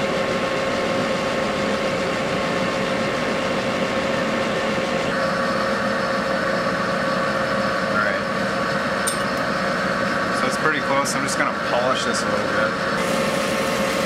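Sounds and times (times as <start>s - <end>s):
metal lathe humming and whining: 0.0s - 14.0s.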